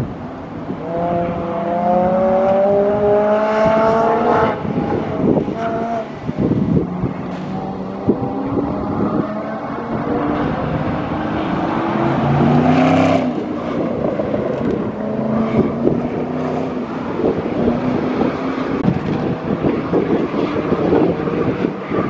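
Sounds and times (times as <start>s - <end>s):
wind buffeting microphone: 0.0s - 22.0s
car engine accelerating: 0.7s - 22.0s.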